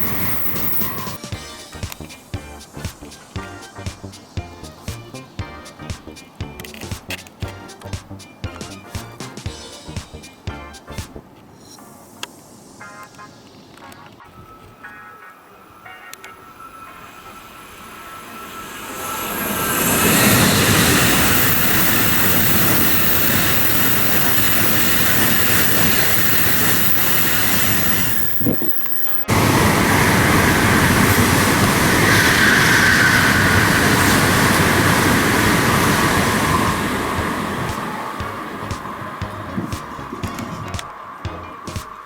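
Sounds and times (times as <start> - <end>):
bullet train passing: 0.0 - 42.0.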